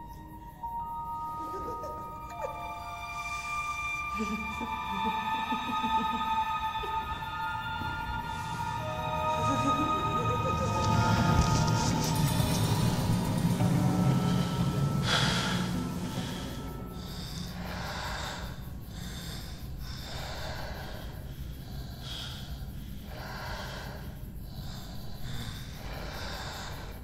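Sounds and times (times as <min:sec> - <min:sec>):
heavy slow breathing: 0:00.0 - 0:27.0
low steady drone: 0:00.0 - 0:27.0.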